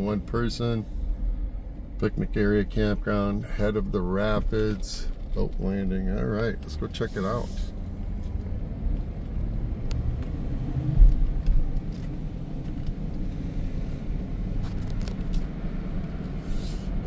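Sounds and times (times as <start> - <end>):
vehicle interior engine rumble: 0.0 - 17.0.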